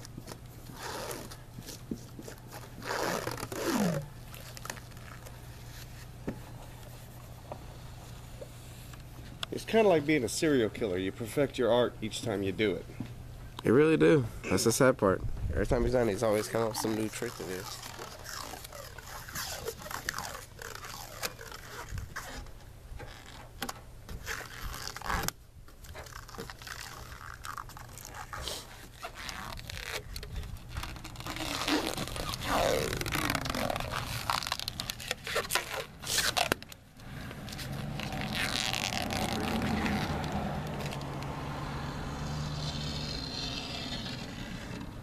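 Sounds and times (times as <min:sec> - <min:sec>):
rubber coating scraped and peeled: 0:00.0 - 0:11.5, 0:15.6 - 0:45.0.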